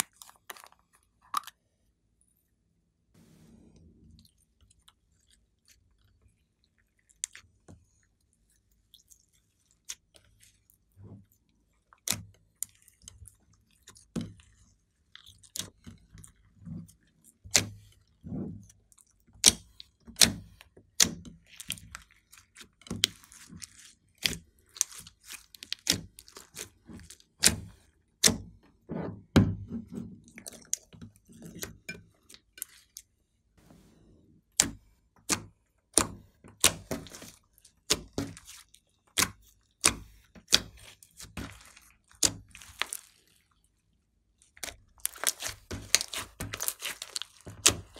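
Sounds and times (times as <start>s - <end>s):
slime squelching: 0.0s - 1.7s, 3.2s - 28.9s, 29.8s - 47.9s.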